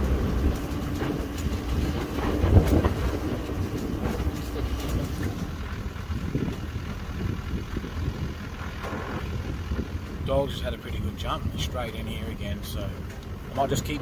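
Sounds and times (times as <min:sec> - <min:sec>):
gear rattling and clicking: 0:00.0 - 0:14.0
vehicle engine and tyres rumbling: 0:00.0 - 0:14.0.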